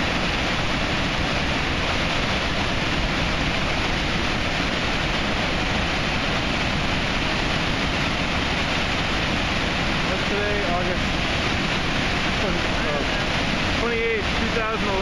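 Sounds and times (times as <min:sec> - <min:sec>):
waterfall rushing roar: 0:00.0 - 0:15.0.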